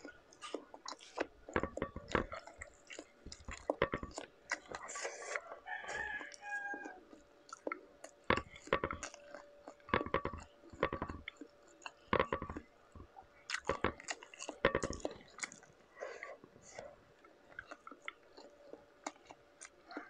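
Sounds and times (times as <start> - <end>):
mouth chewing with wet smacking: 0.0 - 20.0.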